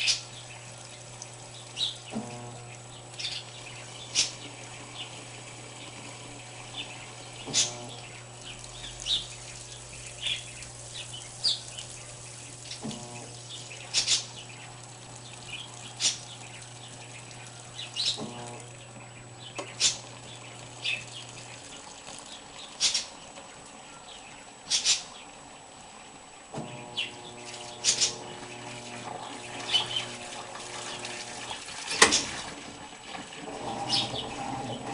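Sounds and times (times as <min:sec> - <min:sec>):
water running into washing machine: 0:00.0 - 0:23.5, 0:25.8 - 0:34.9
birds chirping: 0:00.0 - 0:32.4, 0:33.5 - 0:34.9
washing machine low hum: 0:00.0 - 0:34.9.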